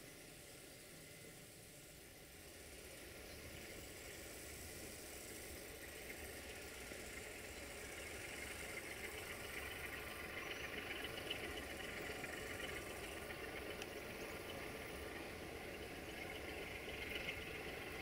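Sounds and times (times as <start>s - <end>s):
diesel locomotive engine running: 0.0s - 18.0s.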